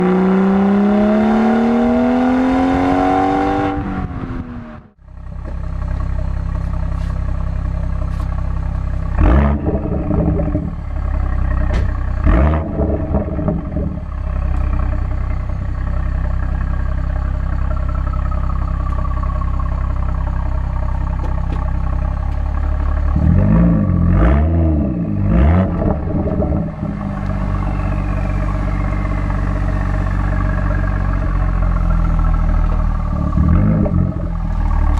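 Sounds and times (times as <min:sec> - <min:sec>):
car engine revving and idling: 0:00.0 - 0:34.9.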